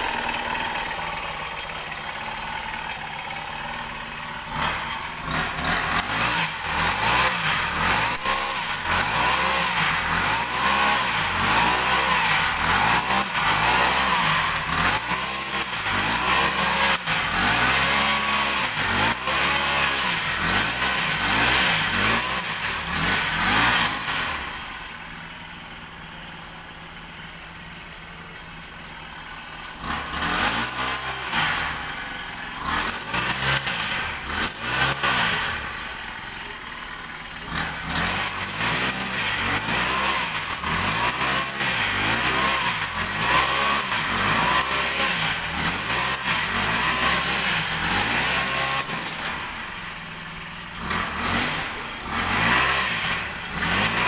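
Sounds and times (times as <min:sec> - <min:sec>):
brush cutter engine revving: 0:00.0 - 0:54.0.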